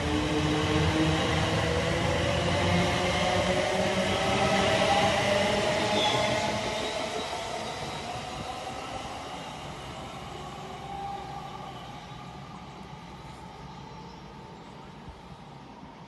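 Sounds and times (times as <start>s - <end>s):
train passing with whine: 0.0s - 16.0s.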